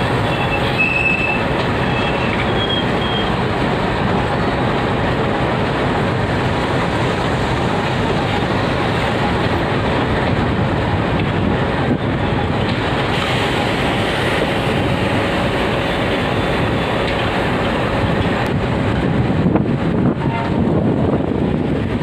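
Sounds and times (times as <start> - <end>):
train wheels on track: 0.0 - 22.0.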